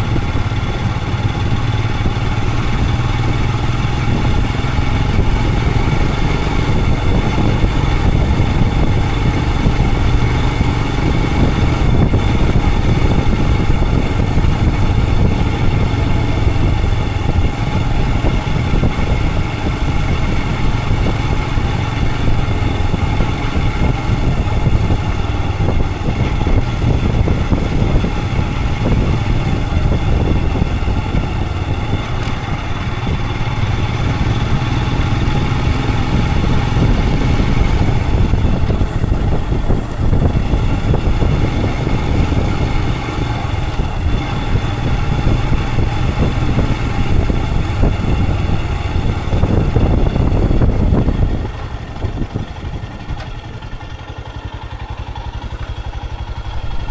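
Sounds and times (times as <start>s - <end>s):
wind noise: 0.0s - 54.1s, 56.2s - 56.9s
motorcycle engine running: 0.0s - 56.9s
road noise: 0.0s - 56.9s.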